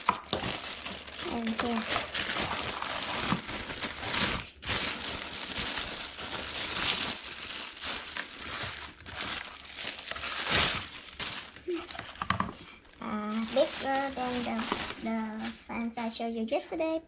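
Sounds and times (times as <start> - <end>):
packaging crinkling and rustling: 0.0 - 15.9.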